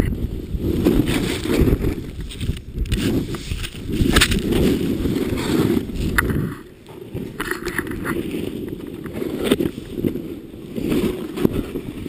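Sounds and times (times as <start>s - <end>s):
snowboard rumbling through powder: 0.0s - 12.0s
wind buffeting microphone: 0.0s - 12.0s.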